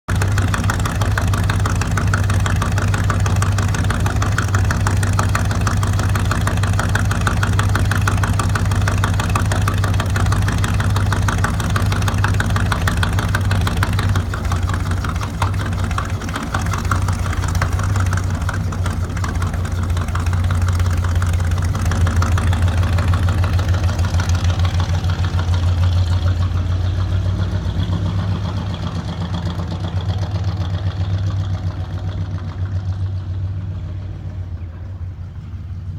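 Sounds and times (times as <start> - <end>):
van engine idling: 0.0 - 35.9.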